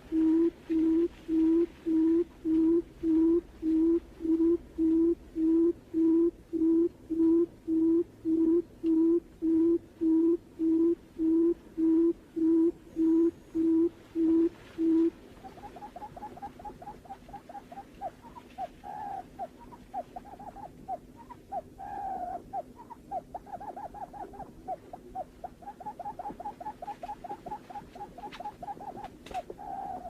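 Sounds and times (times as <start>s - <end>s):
bird low hooting call: 0.0s - 30.0s.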